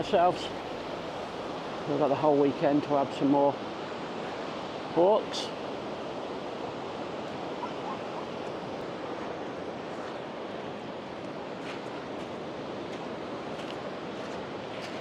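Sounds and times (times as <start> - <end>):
sea surf washing on beach: 0.0 - 15.0
wind: 0.0 - 15.0.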